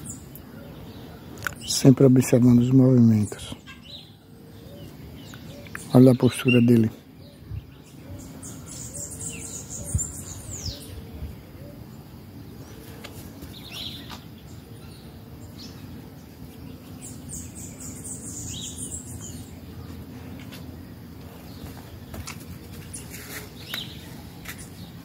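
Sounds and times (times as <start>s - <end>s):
wild birds chirping: 0.0s - 25.0s.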